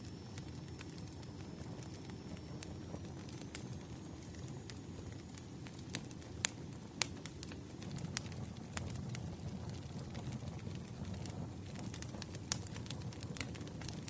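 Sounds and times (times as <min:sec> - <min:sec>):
low rumble of burning logs: 0:00.0 - 0:14.0
wood fire crackling: 0:00.0 - 0:14.0.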